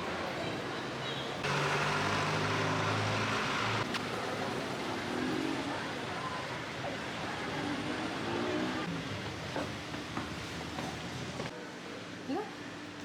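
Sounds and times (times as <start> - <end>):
road noise: 0.0 - 11.5
street noise: 0.0 - 13.0.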